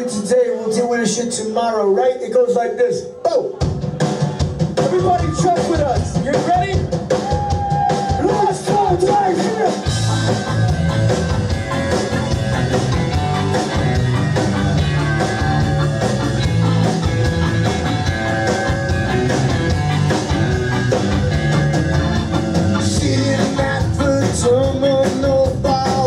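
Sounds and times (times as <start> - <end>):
rock band playing: 3.4 - 26.0
drum hits: 3.6 - 26.0
steady bass line: 3.7 - 26.0.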